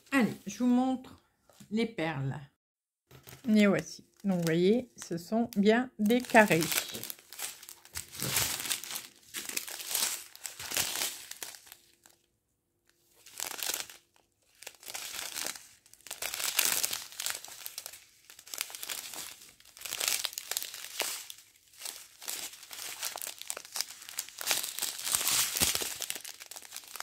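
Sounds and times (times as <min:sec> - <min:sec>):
plastic packets crinkling: 0:03.1 - 0:12.2, 0:13.0 - 0:27.0.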